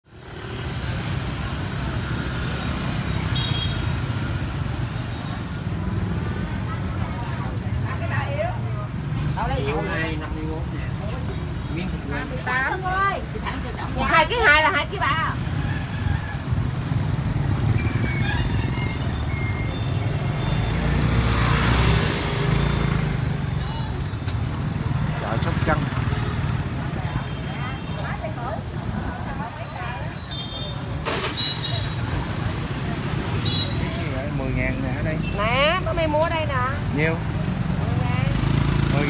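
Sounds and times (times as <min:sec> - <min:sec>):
vehicle rumbling: 0:00.1 - 0:39.0.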